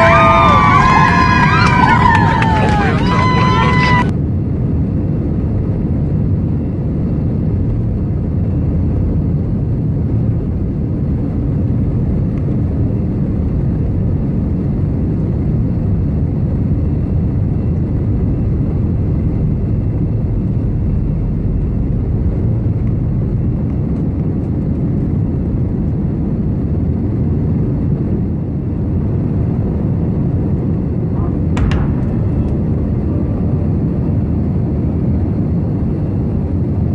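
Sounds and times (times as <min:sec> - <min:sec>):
airliner cabin rumble: 0:00.0 - 0:36.9.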